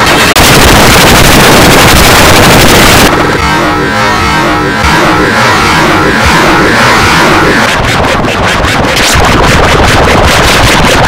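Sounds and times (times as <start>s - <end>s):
harsh distorted pulsing noise: 0.0s - 11.0s.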